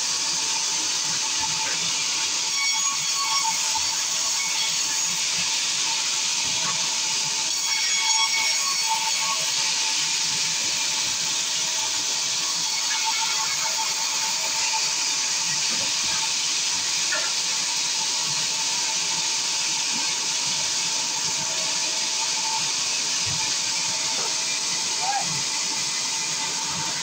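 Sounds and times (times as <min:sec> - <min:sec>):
band saw running: 0:00.0 - 0:27.0.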